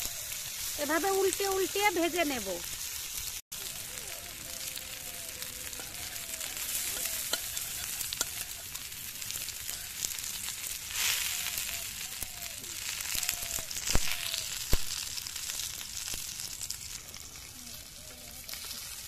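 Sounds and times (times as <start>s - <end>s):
food sizzling in oil: 0.0s - 19.0s
metal spatula turning food: 0.0s - 19.0s.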